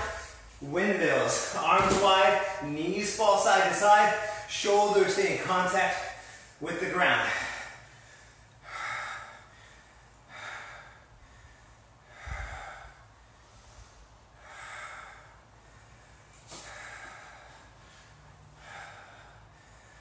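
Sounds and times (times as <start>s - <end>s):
man breathing hard: 0.0s - 4.6s, 5.9s - 20.0s.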